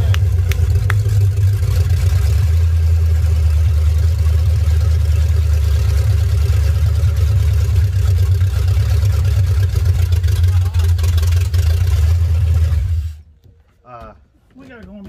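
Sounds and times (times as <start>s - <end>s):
engine at fast idle: 0.0s - 13.2s.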